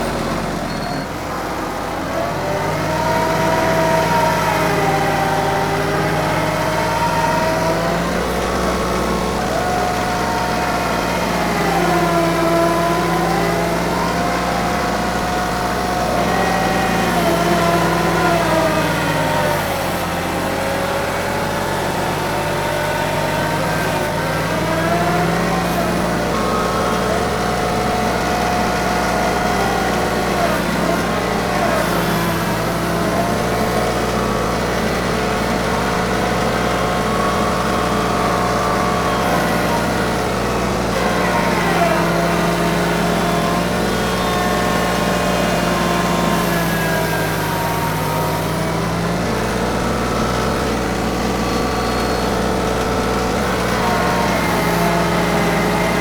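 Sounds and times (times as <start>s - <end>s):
machine whine: 0.0s - 56.0s
tractor diesel engine running: 0.0s - 56.0s.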